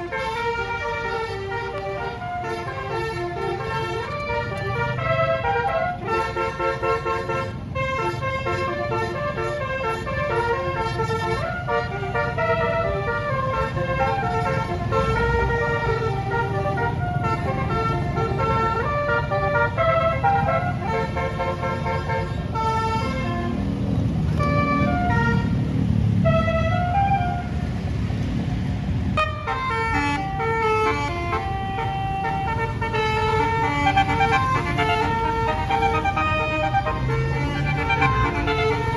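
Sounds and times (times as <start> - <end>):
multi-tone bus air horns: 0.0 - 27.6, 29.1 - 38.9.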